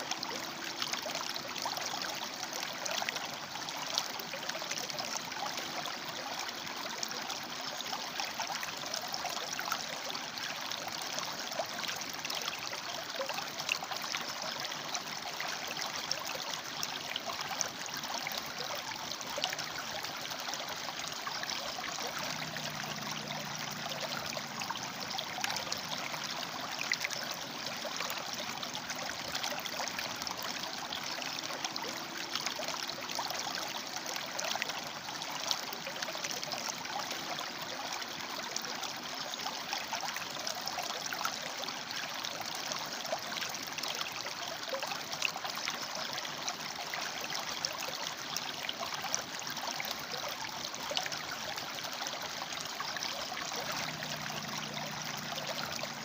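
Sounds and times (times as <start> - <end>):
river water splashing over rocks: 0.0 - 56.0.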